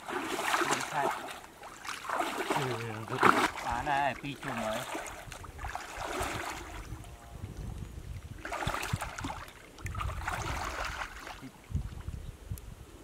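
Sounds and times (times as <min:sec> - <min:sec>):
pond water sloshing: 0:00.0 - 0:12.2.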